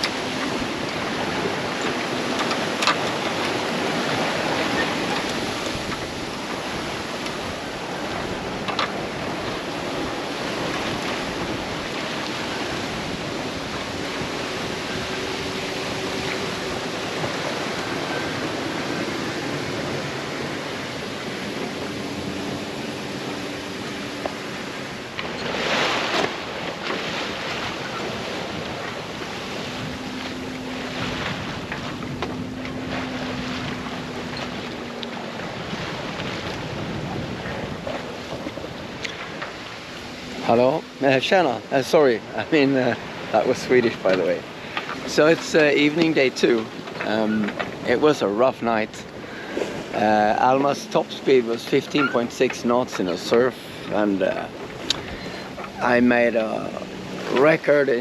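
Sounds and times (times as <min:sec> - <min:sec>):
wind buffeting microphone: 0:00.0 - 0:51.3
sea splashing past hull: 0:00.0 - 0:58.0.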